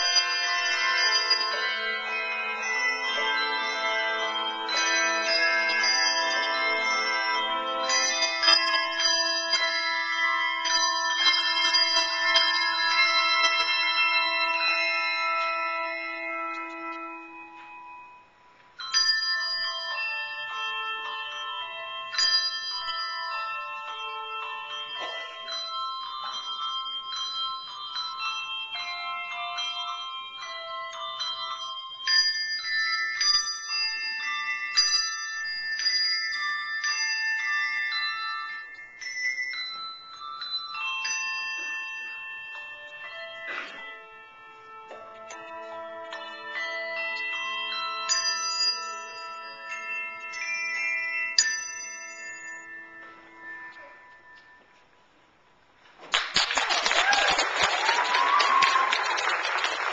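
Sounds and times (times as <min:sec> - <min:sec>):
handbell choir ringing chords: 0:00.0 - 0:54.8, 0:57.0 - 0:59.9
long held low bell: 0:00.0 - 0:54.9.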